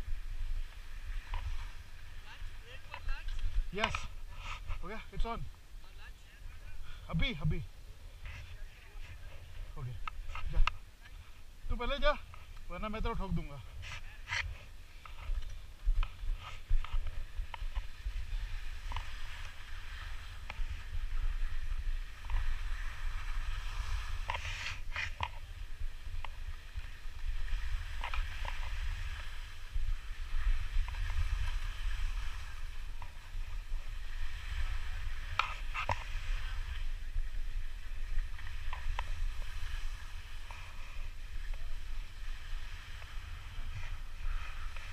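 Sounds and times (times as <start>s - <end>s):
skis scraping over snow: 0.1s - 5.4s, 11.8s - 44.9s.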